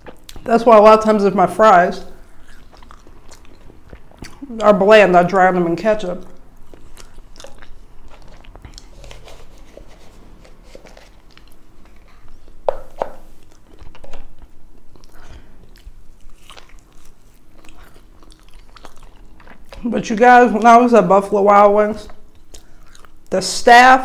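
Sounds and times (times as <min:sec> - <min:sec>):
chewing fries: 0:00.0 - 0:12.7, 0:13.3 - 0:20.9, 0:22.0 - 0:23.4.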